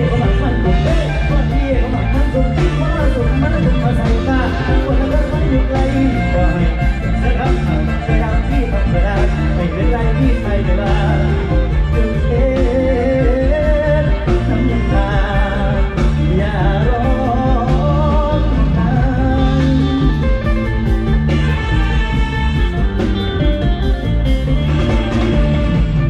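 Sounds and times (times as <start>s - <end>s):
person singing: 0.0s - 23.6s
drums: 0.0s - 26.0s
electric bass line: 0.0s - 26.0s.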